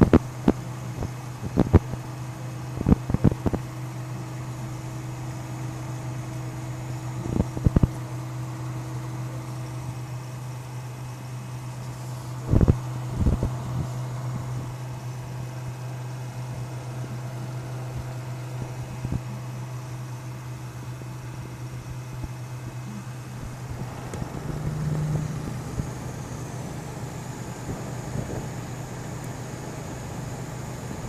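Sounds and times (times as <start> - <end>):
computer fans humming: 0.0 - 31.0.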